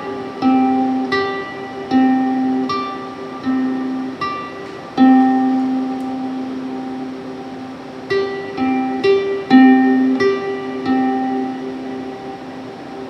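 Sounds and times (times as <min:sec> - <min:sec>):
plucked string instrument notes: 0:00.0 - 0:13.0.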